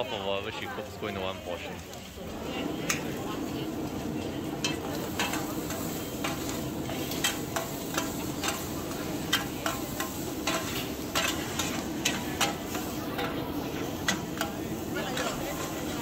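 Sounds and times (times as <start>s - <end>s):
sizzling of frying: 0.0s - 16.0s
metal ladles clanking on a wok: 2.4s - 16.0s.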